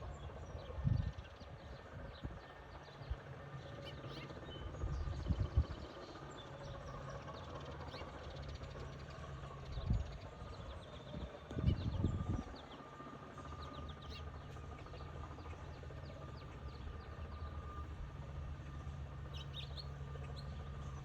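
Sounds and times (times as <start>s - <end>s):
low outdoor rumble: 0.0s - 21.0s
small birds chirping: 0.1s - 17.9s, 18.6s - 21.0s.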